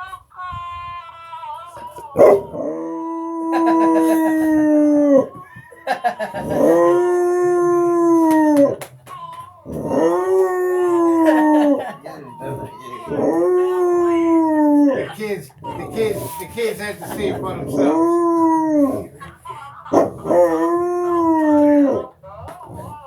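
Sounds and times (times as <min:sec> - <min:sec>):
dog howling: 0:01.8 - 0:08.9, 0:09.6 - 0:16.4, 0:17.4 - 0:19.1, 0:20.0 - 0:23.0.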